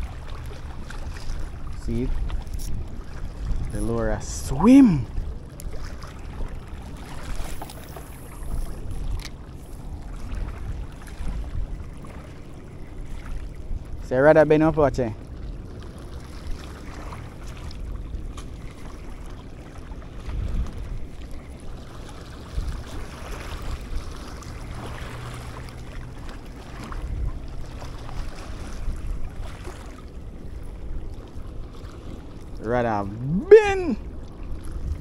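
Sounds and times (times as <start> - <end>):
wind buffeting microphone: 0.0 - 14.5, 16.4 - 26.0, 26.8 - 35.0
low steady hum: 0.0 - 35.0
water lapping: 0.0 - 35.0.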